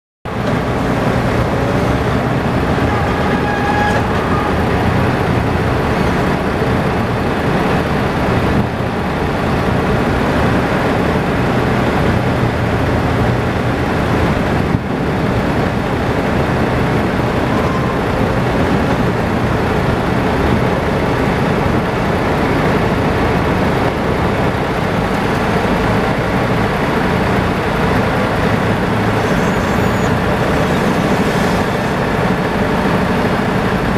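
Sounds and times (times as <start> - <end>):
forklifts working: 0.3 - 33.9
truck engine idling: 0.3 - 33.9.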